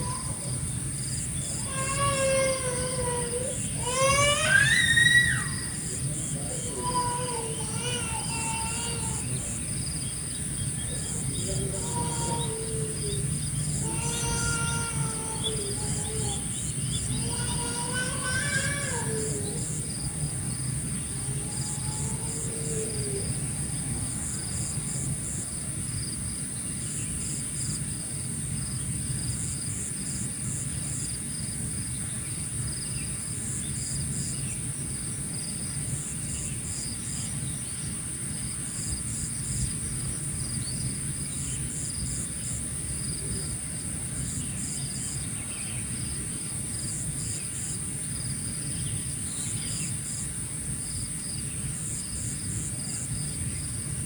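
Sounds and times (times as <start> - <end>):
insect continuous high trill: 0.0 - 54.0.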